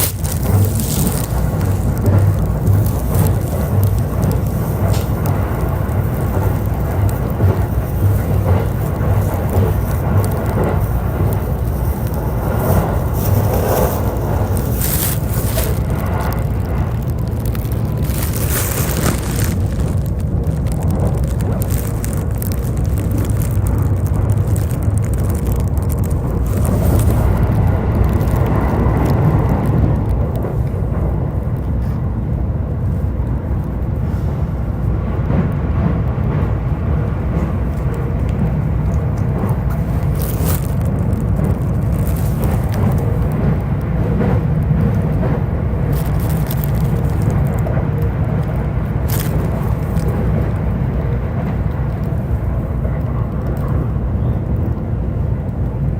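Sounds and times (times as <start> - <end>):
electric train rumbling: 0.0 - 55.9.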